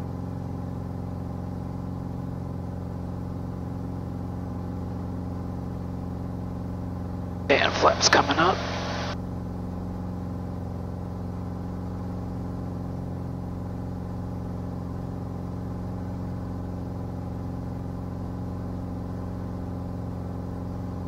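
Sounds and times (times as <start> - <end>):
aircraft engine and propeller droning: 0.0 - 21.0.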